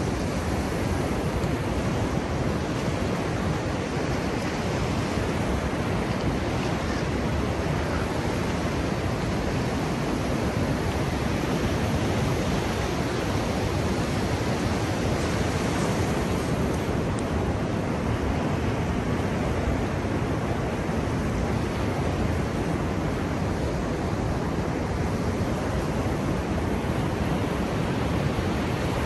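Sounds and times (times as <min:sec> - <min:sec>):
ocean surf washing up beach: 0:00.0 - 0:29.0.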